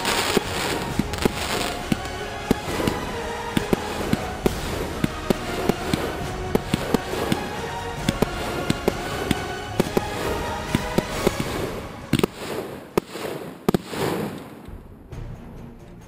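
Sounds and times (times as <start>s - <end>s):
fireworks bangs and cracks: 0.0s - 14.9s.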